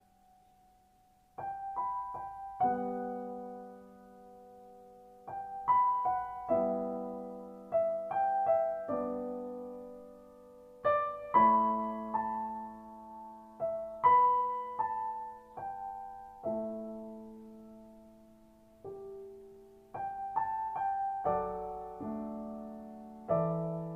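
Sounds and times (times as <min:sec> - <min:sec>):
slow piano piece: 0:00.0 - 0:23.9.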